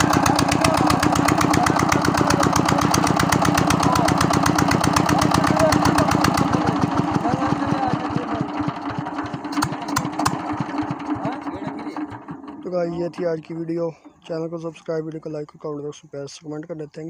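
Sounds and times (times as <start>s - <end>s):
diesel engine running: 0.0s - 14.3s.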